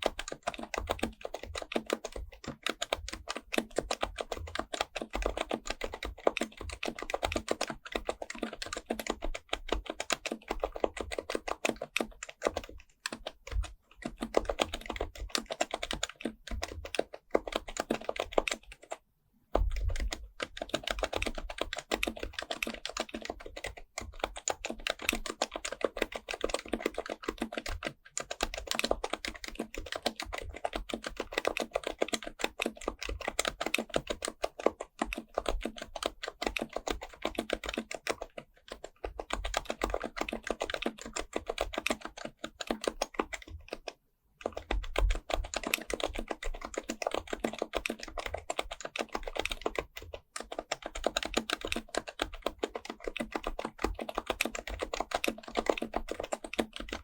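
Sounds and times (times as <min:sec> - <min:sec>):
fast keyboard typing: 0:00.0 - 0:57.0.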